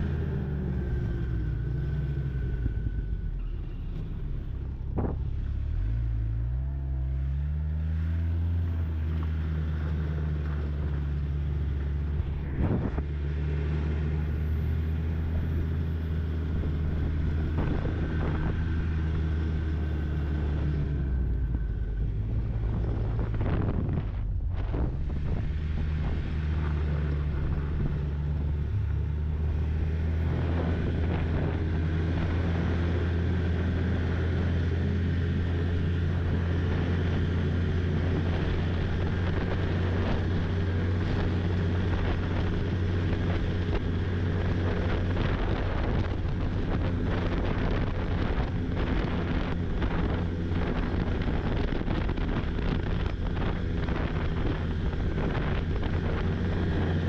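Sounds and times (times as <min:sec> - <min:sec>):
rattling ride: 0:00.0 - 0:57.0
snowmobile engine running: 0:00.0 - 0:57.0
wind noise on microphone: 0:04.1 - 0:06.4, 0:07.8 - 0:57.0.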